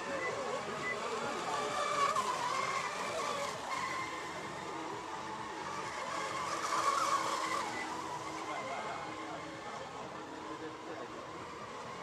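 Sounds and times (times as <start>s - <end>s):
model boat motors whining: 0.0s - 12.0s.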